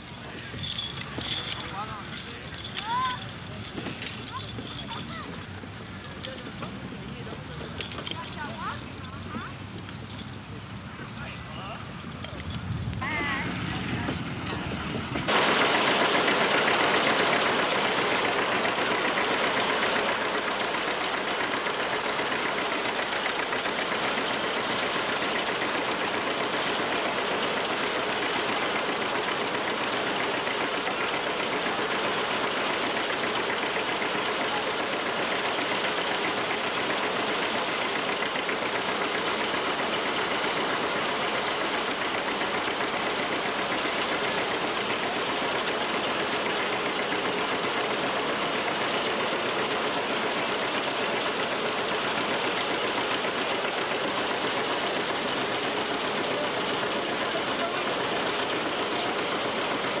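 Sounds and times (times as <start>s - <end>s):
threshing machine running: 0.0s - 60.0s.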